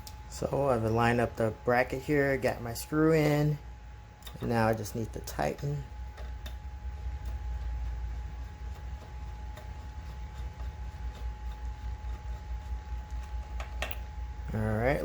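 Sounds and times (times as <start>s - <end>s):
faint steady whine: 0.0s - 15.0s
steady low hum: 0.0s - 15.0s.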